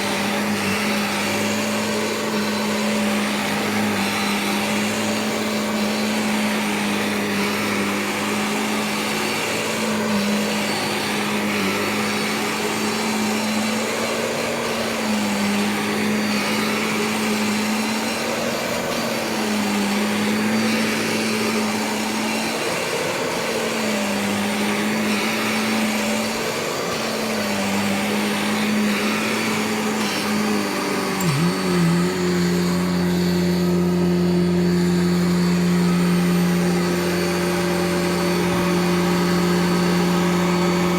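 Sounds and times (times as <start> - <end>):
vacuum cleaner motor running: 0.0 - 40.9.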